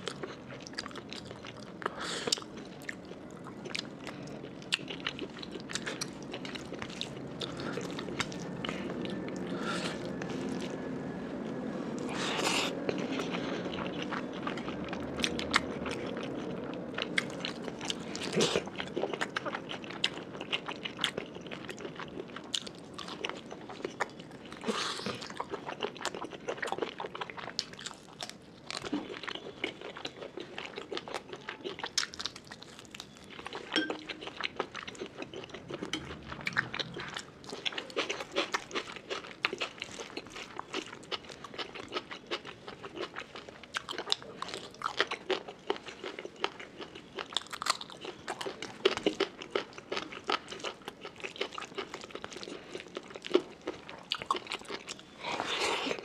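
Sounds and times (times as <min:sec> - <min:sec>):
chewing with wet mouth clicks: 0:00.0 - 0:10.7, 0:12.4 - 0:56.0.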